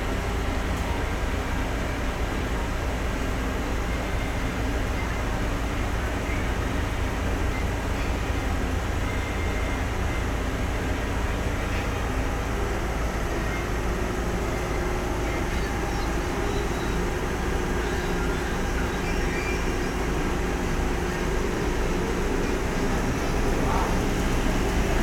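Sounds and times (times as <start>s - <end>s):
washing machine running: 0.0s - 25.0s.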